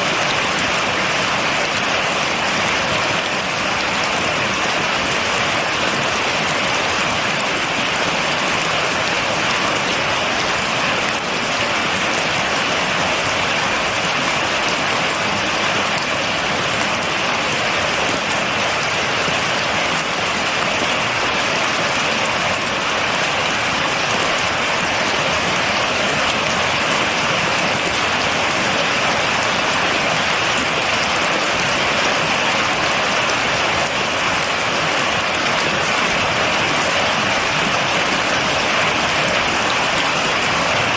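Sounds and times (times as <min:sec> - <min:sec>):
rain pattering on a surface: 0:00.0 - 0:40.9.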